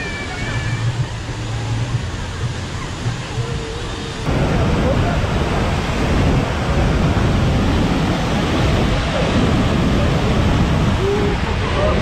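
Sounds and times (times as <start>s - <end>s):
waterfall crashing into pool: 0.0s - 12.0s.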